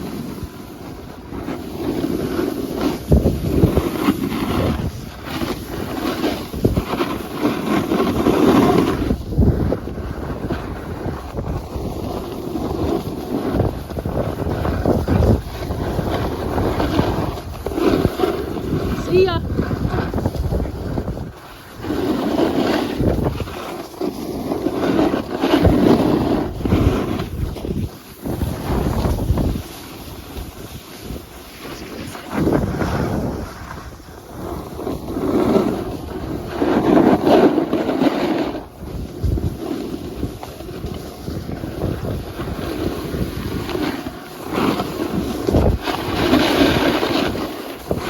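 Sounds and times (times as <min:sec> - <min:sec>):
snowboard scraping over snow: 0:00.0 - 0:48.0
wind buffeting microphone: 0:02.8 - 0:23.8, 0:24.4 - 0:48.0.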